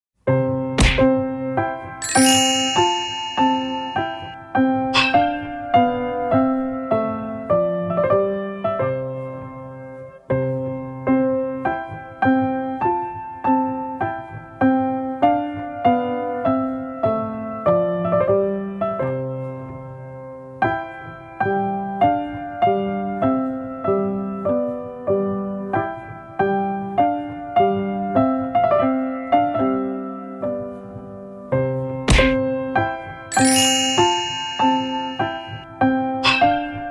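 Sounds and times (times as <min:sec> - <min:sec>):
gentle piano melody: 0:00.3 - 0:36.9.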